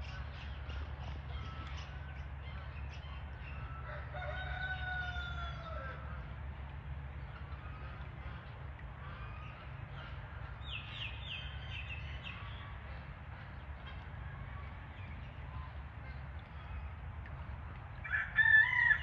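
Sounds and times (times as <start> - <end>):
faint poultry calls: 0.0 - 19.0
steady low rumble: 0.0 - 19.0.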